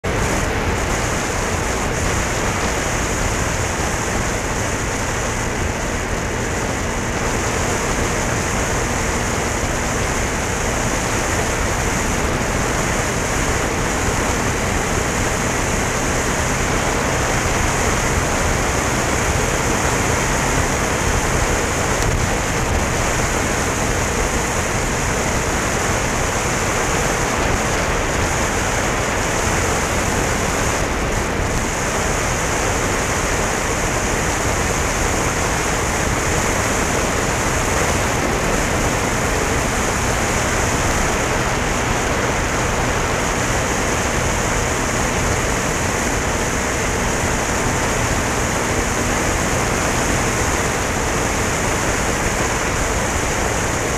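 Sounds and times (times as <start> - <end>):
low engine hum: 0.0 - 53.9
wind rush over microphone: 0.0 - 53.9.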